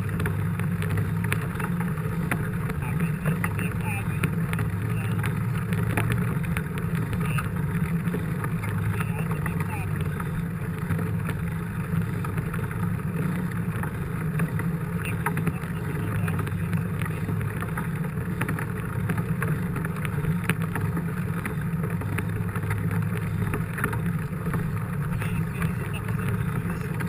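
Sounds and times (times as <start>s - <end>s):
bike tyres rumbling: 0.0s - 27.0s.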